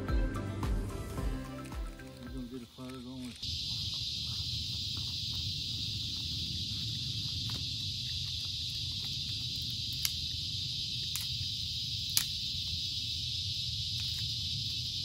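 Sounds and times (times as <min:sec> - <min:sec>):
high-pitched insect chorus: 0:00.9 - 0:15.0
sharp cracks from stick fire: 0:02.8 - 0:15.0.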